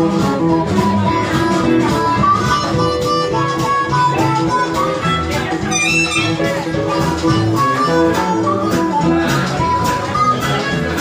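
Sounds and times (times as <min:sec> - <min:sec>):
double bass: 0:00.0 - 0:11.0
drums: 0:00.0 - 0:11.0
keyboard: 0:00.0 - 0:11.0
harmonica: 0:00.2 - 0:11.0.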